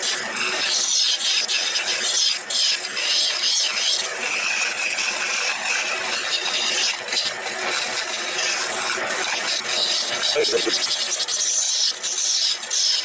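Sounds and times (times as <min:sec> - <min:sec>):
wood lathe scraping hiss: 0:00.0 - 0:13.0.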